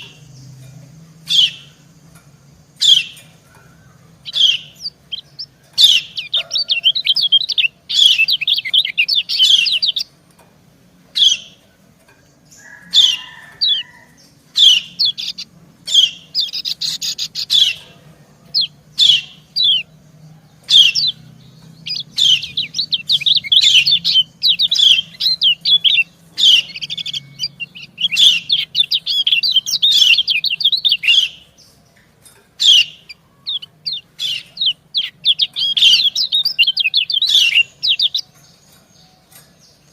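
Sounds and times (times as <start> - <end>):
birds twittering chirps: 0.0 - 39.9.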